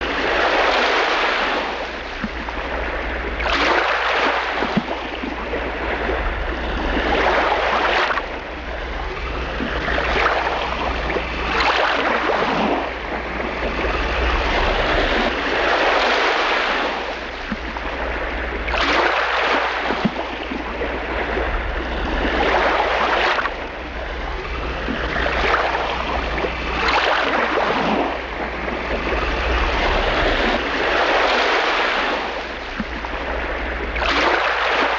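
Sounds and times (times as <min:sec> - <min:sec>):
waves washing on shore: 0:00.0 - 0:34.9
wind rumble on microphone: 0:00.0 - 0:34.9.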